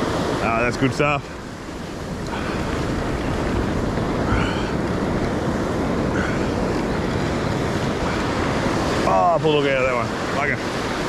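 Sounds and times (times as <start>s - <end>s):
surf rushing over shallows: 0.0s - 11.0s
wind buffeting microphone: 0.0s - 11.0s.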